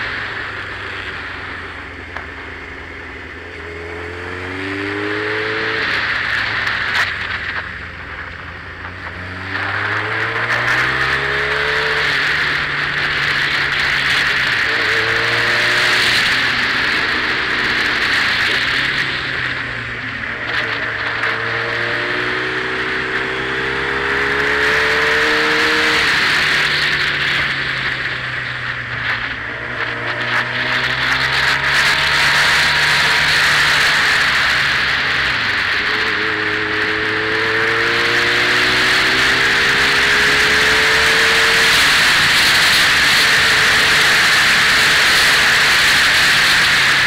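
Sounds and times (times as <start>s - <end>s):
motorcycle engine revving: 0.0s - 47.0s
wind and road noise: 0.0s - 47.0s.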